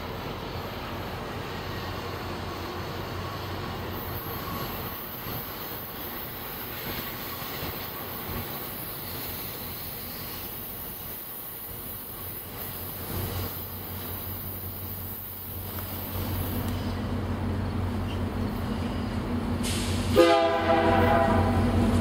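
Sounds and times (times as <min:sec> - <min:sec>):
diesel locomotive rumble: 0:00.0 - 0:22.0.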